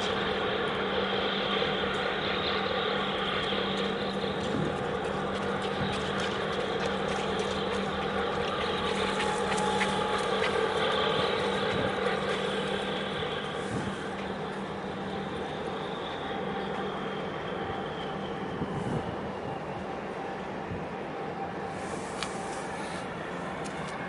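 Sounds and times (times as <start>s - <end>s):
distant engines droning: 0.0s - 24.0s.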